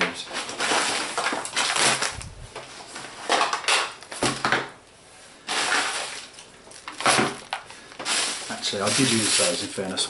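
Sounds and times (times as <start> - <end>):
fabric and plastic rustling: 0.0 - 10.0.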